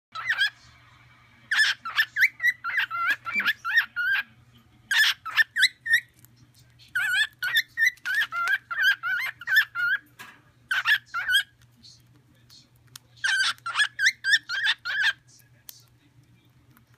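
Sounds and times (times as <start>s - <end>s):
faint low hum: 0.2s - 16.9s.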